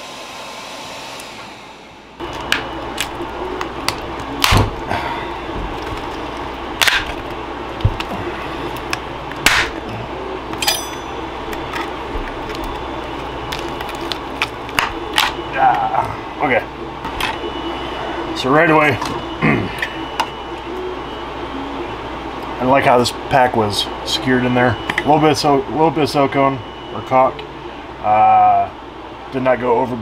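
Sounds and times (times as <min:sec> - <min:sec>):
extractor fan running: 0:00.0 - 0:30.0.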